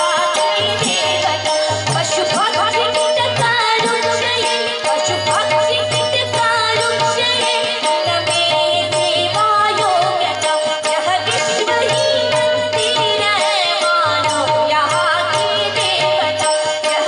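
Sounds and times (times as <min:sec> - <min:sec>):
women's group singing: 0:00.0 - 0:17.0.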